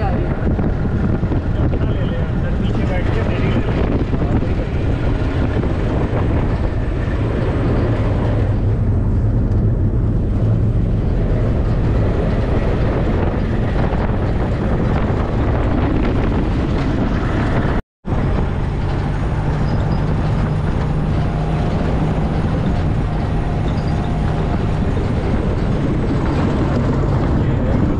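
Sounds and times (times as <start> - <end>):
vehicle engine running while driving: 0.0 - 27.9.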